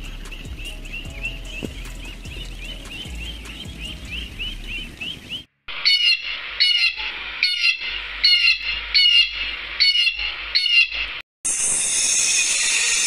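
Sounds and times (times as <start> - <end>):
ducks calling: 0.0 - 11.2.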